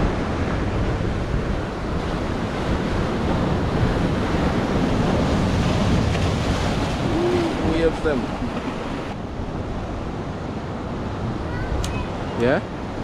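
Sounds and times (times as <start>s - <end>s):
ocean surf breaking on rocks: 0.0s - 13.0s
wind buffeting microphone: 0.0s - 13.0s.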